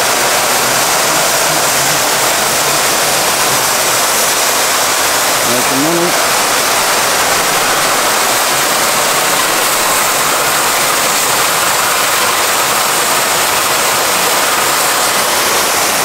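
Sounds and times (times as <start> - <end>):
gas torches hissing: 0.0 - 16.0.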